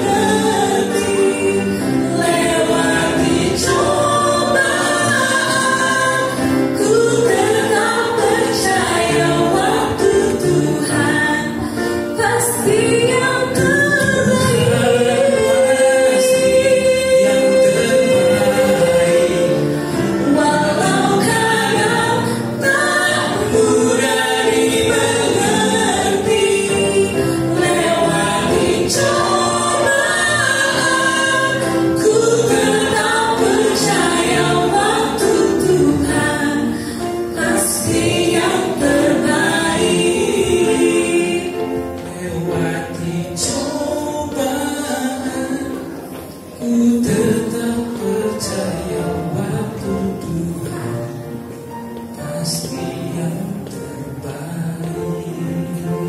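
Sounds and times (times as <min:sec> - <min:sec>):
woman and man singing duet: 0:00.0 - 0:56.0.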